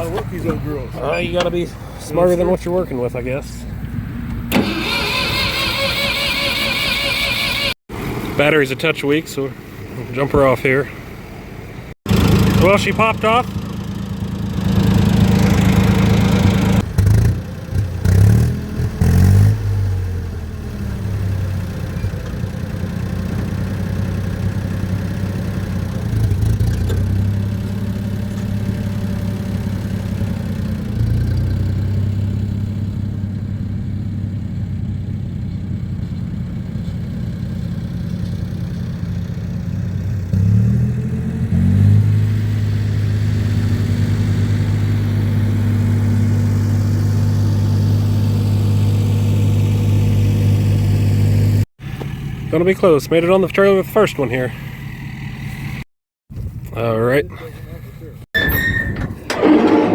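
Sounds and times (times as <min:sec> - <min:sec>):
tractor engine running: 0:00.0 - 0:10.7, 0:12.1 - 0:19.3, 0:20.0 - 0:55.8, 0:58.4 - 0:59.9.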